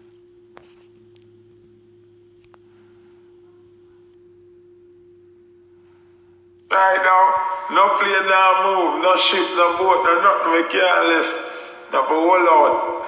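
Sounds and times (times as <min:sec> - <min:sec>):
faint steady hum: 0:00.0 - 0:13.0
lower hum: 0:00.0 - 0:13.0.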